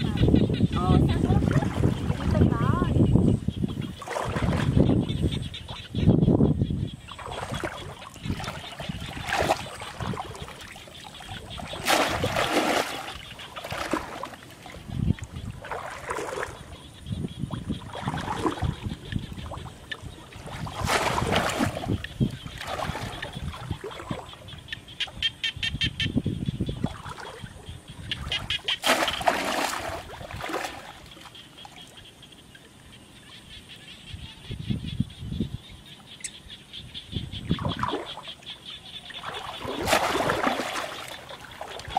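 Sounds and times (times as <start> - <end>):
water splashing and sloshing: 0.0 - 6.1, 6.9 - 25.8, 26.6 - 33.8, 36.0 - 41.9.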